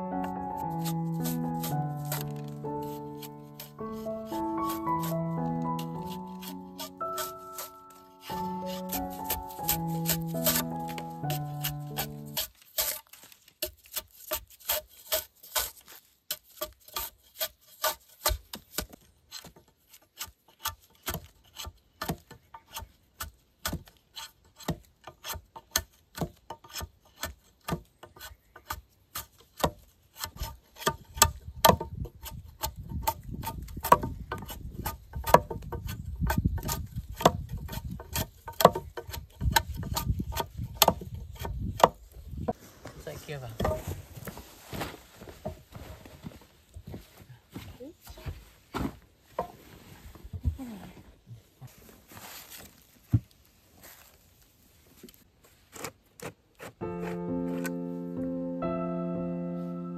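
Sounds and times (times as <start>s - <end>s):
hand tool working wood: 0.1s - 46.0s, 55.6s - 57.8s.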